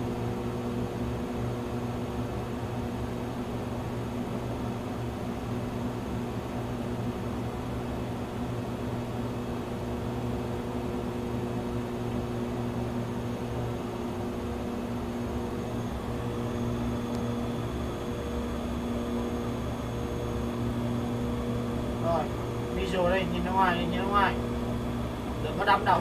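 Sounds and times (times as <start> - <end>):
cockpit hum and hiss: 0.0 - 26.0.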